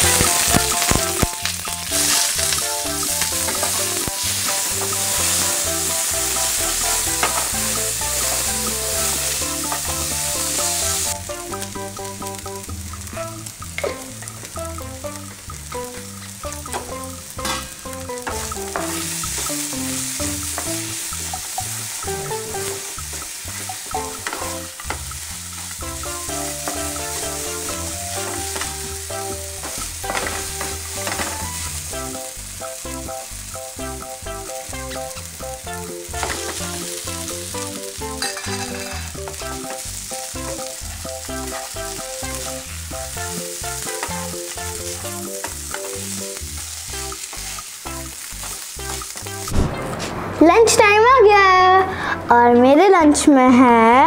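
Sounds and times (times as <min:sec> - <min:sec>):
food sizzling in hot oil: 0:00.0 - 0:49.9
instrumental background music: 0:00.0 - 0:53.2.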